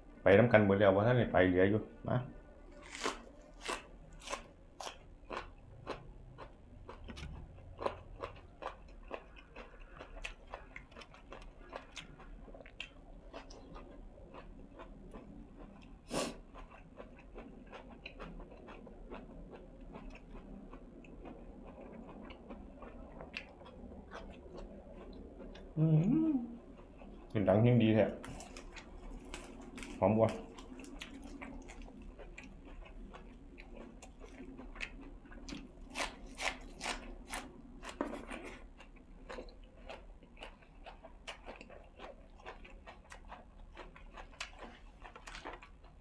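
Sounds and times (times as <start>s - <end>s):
person chewing and crunching food: 2.7s - 46.0s.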